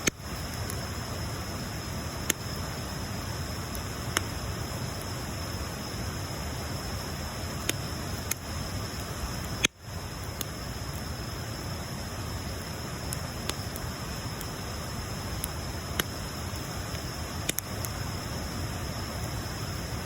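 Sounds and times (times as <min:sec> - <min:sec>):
bonfire burning with hiss: 0:00.0 - 0:20.0
fire crackles: 0:00.0 - 0:20.0.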